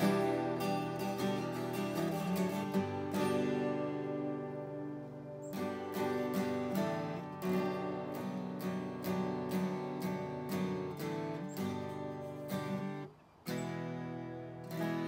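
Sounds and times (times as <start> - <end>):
twelve-string acoustic guitar strumming: 0.0 - 15.0.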